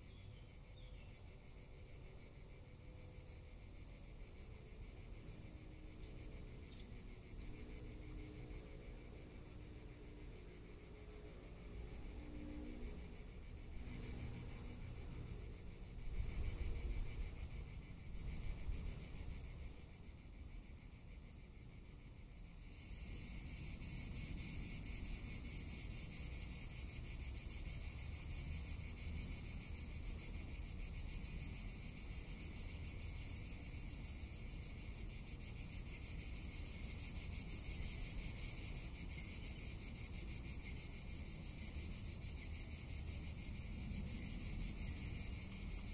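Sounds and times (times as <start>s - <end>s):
cicadas buzzing: 0.0s - 45.9s.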